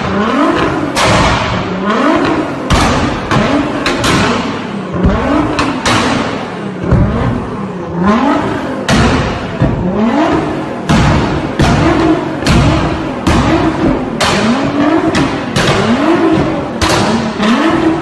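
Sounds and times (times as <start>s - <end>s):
car engine revving: 0.0s - 18.0s
exhaust bangs: 0.0s - 18.0s.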